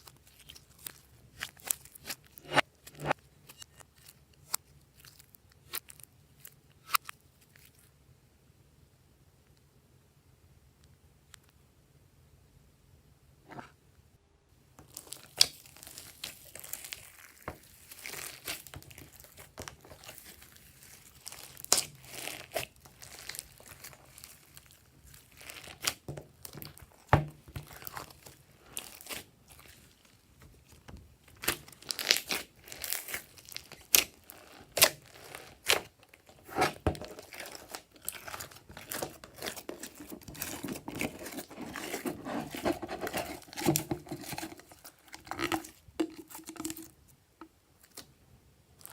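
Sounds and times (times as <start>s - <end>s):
slime squelching and popping: 0.0s - 7.9s, 14.8s - 47.0s.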